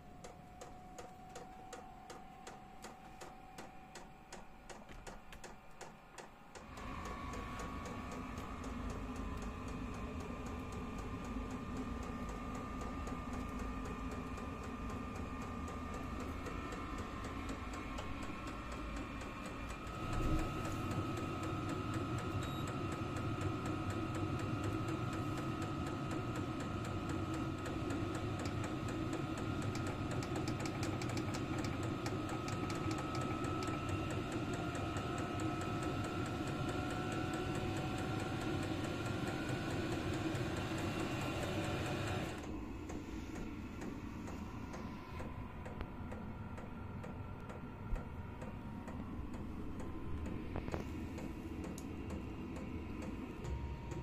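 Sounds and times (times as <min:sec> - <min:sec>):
heater blower whine: 0:06.5 - 0:54.0.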